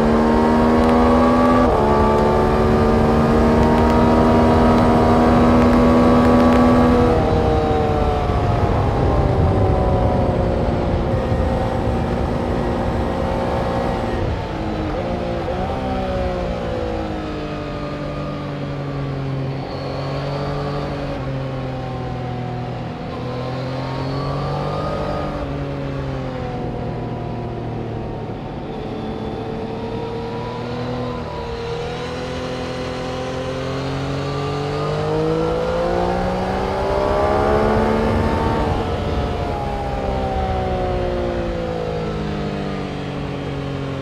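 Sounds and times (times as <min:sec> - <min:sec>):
race car engines: 0:00.0 - 0:44.0.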